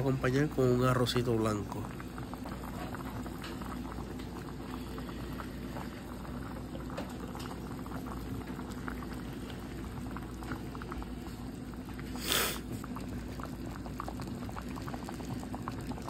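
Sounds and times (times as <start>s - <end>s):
stew bubbling and popping: 0.0s - 16.0s.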